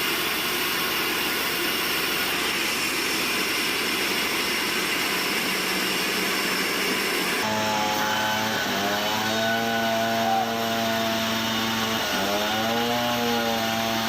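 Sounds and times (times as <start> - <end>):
sawmill machinery whining: 0.0 - 14.0.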